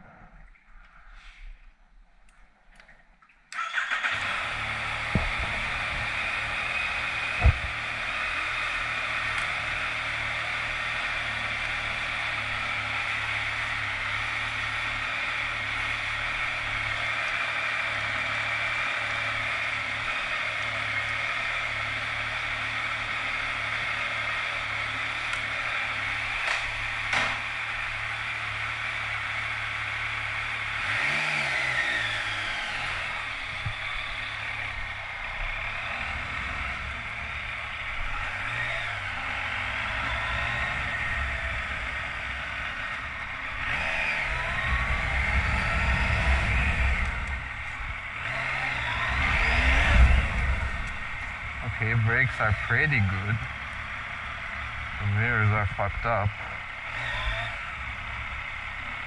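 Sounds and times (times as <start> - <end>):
motorcycle engine running: 3.7 - 59.0.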